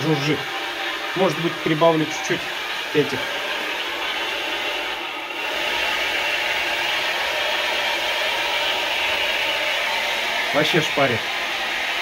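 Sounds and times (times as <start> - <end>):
electric pump whirring: 0.0 - 12.0.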